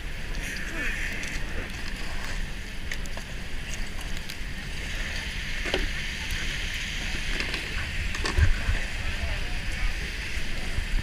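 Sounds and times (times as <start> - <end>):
wet hiss from slushy road: 0.0 - 11.0.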